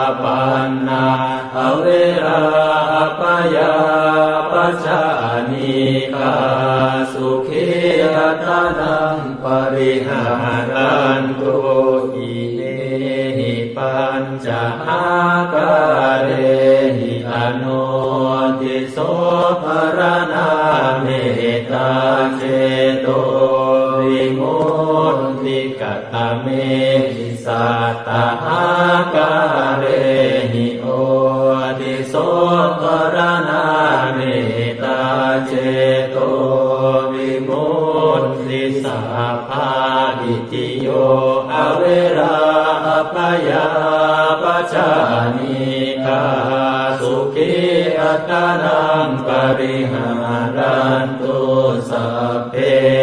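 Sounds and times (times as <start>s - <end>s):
person chanting into a microphone: 0.0s - 53.0s.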